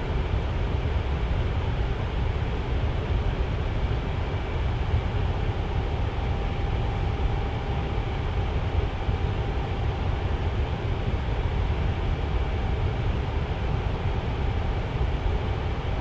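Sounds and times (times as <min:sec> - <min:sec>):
faint motor hum: 0:00.0 - 0:16.0.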